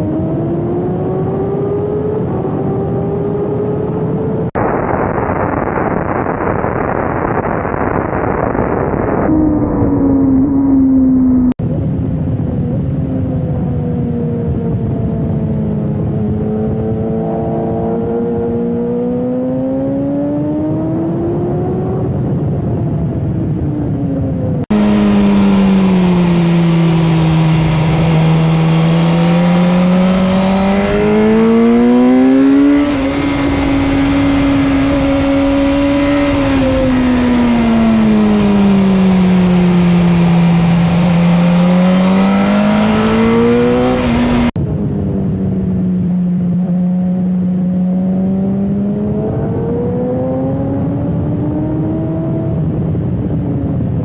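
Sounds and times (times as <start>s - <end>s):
motorcycle engine at speed: 0.0s - 4.6s, 8.9s - 54.0s.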